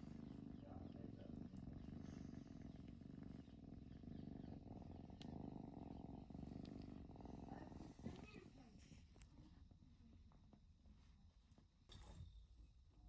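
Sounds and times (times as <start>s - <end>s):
cat purring: 0.0s - 11.6s.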